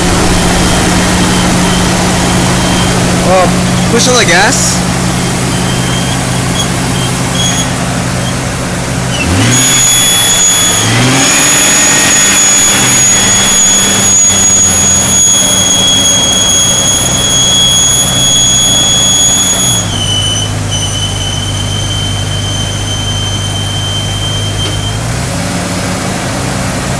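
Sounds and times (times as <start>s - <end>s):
high-pitched engine whistle: 0.0s - 25.1s
car engine revving and idling: 0.0s - 26.9s.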